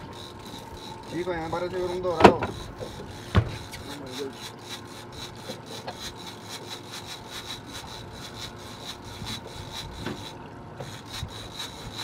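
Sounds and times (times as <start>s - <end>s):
fishing reel cranking: 0.0s - 12.0s.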